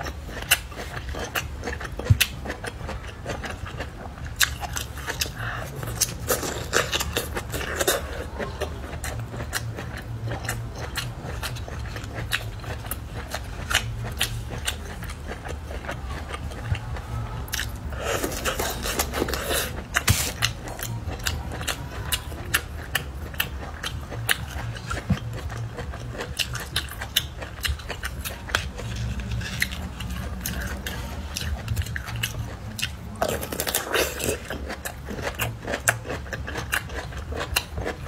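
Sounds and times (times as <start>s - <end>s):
crunchy chewing: 0.0s - 38.0s
steady low hum: 0.0s - 38.0s.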